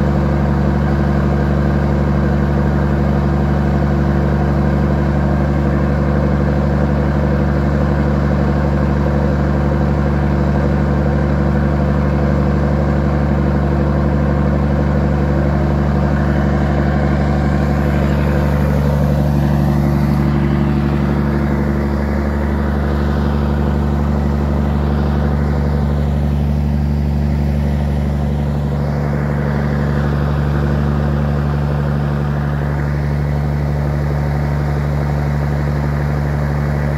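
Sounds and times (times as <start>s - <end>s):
truck diesel engine running: 0.0s - 36.9s.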